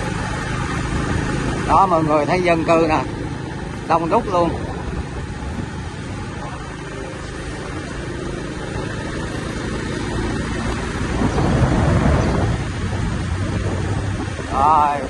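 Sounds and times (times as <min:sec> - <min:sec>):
motorbike engine and road noise: 0:00.0 - 0:15.0.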